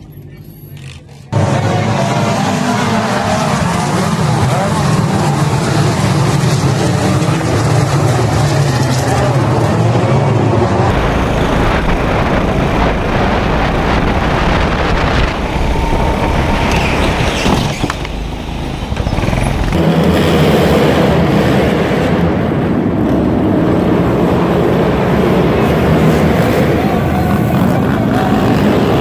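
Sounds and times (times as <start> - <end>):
racing car engines running hard: 0.0 - 29.0.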